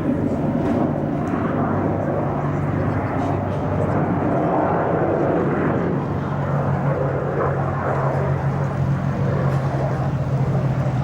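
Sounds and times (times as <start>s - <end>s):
jet engines droning in flight: 0.0s - 11.0s.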